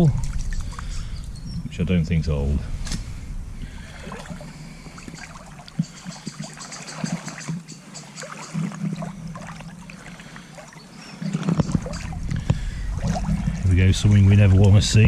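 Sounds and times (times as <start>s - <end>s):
water splashing around wading legs: 0.0s - 1.2s, 2.8s - 14.8s.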